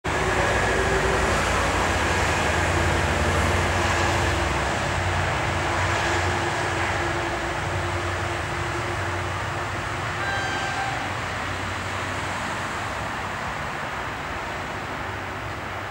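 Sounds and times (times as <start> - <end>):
traffic noise: 0.0 - 15.9
distant electric locomotive: 0.1 - 15.9.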